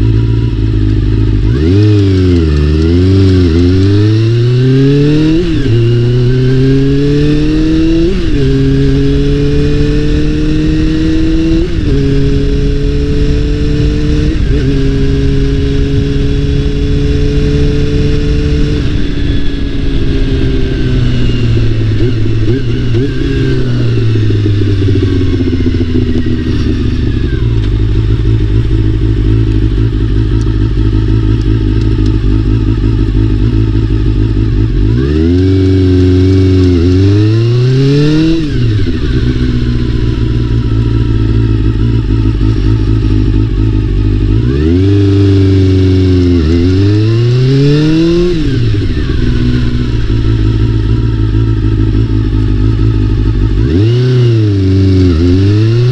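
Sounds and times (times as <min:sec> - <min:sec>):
motorcycle engine shifting gears: 0:00.0 - 0:55.9.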